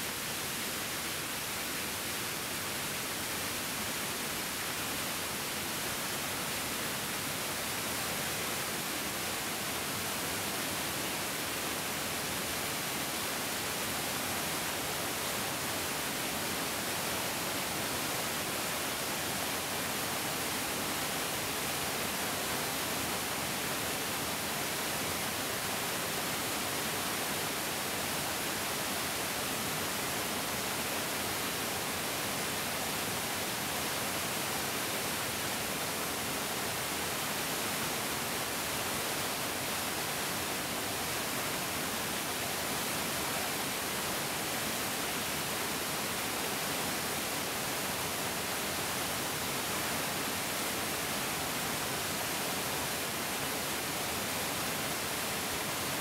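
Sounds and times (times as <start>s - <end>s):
mountain stream flowing: 0.0s - 56.0s.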